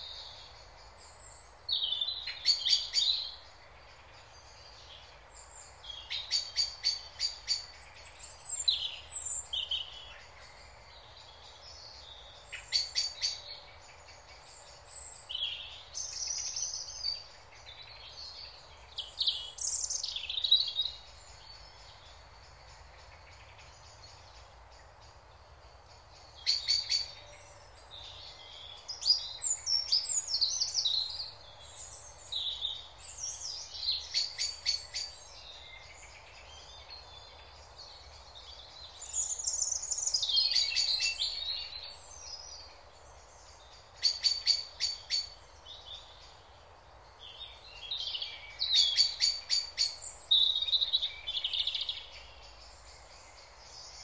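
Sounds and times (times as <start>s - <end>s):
low background noise: 0.0s - 54.0s
songbirds chirping and singing: 0.0s - 54.0s.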